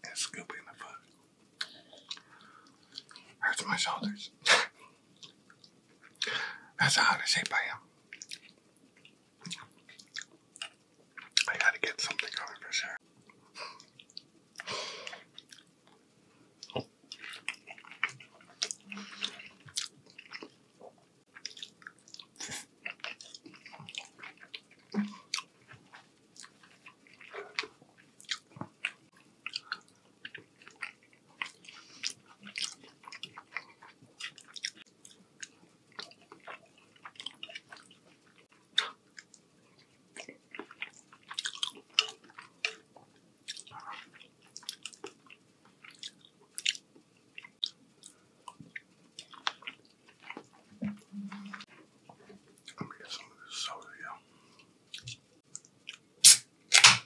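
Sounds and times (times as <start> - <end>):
wet chewing and mouth clicks: 0.8 - 4.2, 5.2 - 6.4, 7.4 - 16.0, 16.6 - 57.0.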